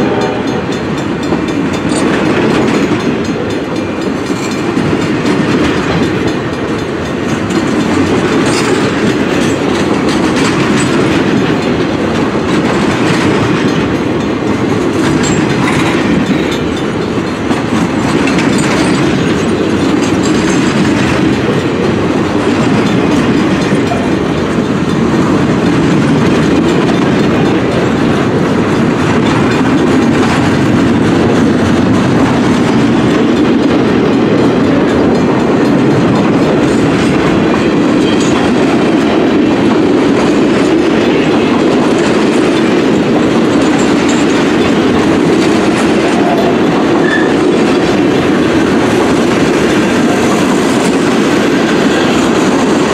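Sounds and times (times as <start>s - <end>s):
train rolling past on rails: 0.0s - 52.9s.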